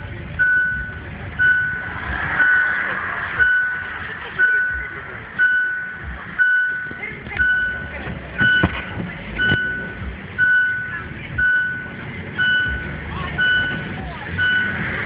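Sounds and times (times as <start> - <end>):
low traffic rumble: 0.0 - 15.0
electronic beeper high tone: 0.4 - 2.8, 3.4 - 8.7, 9.4 - 15.0.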